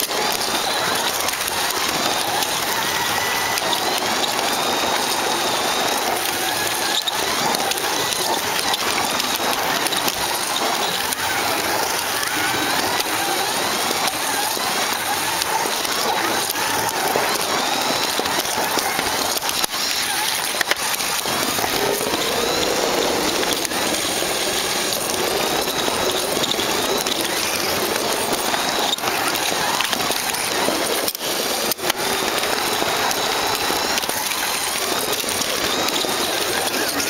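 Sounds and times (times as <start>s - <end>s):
electric motor whine: 0.0s - 37.0s
slot car wheels clattering on track: 0.0s - 37.0s.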